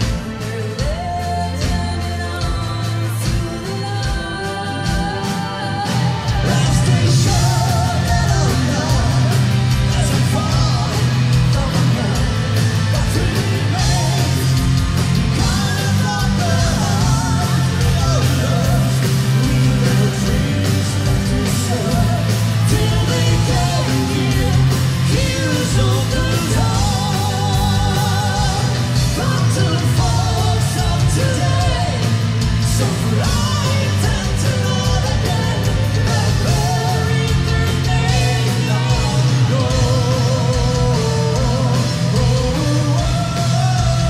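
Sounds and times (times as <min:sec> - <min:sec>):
live metal band playing: 0:00.0 - 0:44.0
woman and man singing: 0:00.0 - 0:44.0.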